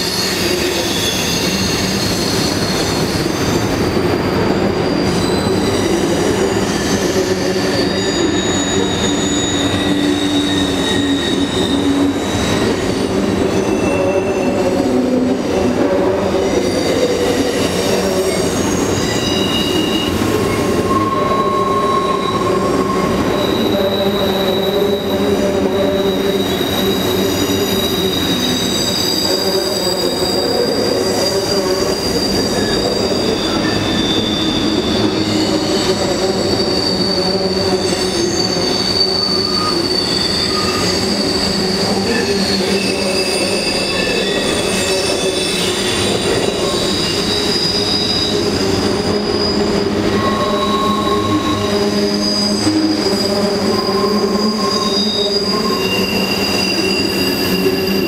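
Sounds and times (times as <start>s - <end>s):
high wheel squeal: 0.0s - 58.0s
train wheels rumbling on rail: 0.0s - 58.0s.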